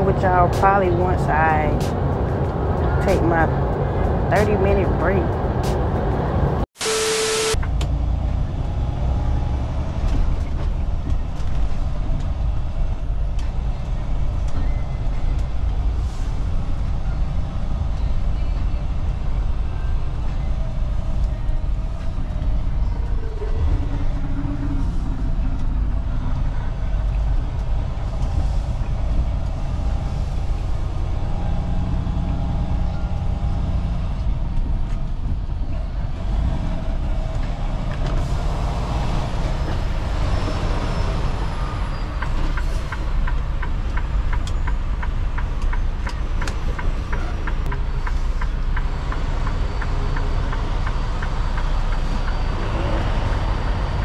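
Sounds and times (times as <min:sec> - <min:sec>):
truck engine and road noise drone: 0:00.0 - 0:54.0.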